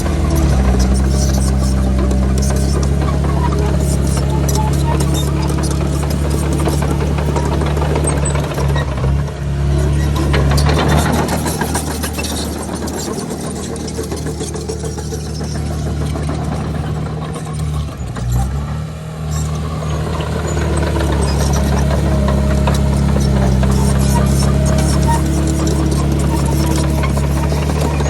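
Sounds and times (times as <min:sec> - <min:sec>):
bulldozer diesel engine under load: 0:00.0 - 0:28.0.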